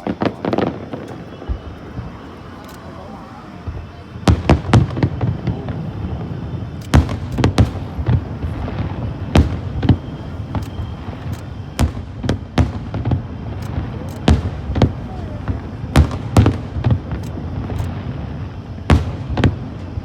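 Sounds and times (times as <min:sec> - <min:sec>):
firework shells bursting: 0:03.6 - 0:20.0.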